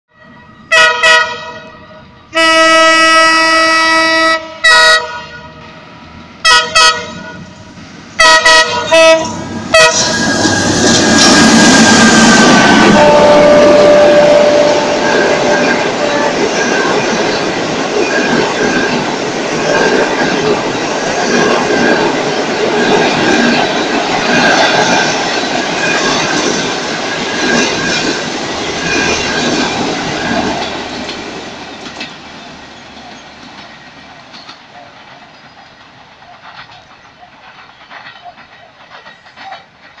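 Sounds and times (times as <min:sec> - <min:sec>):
train wheels rolling on track: 0:00.2 - 0:40.0.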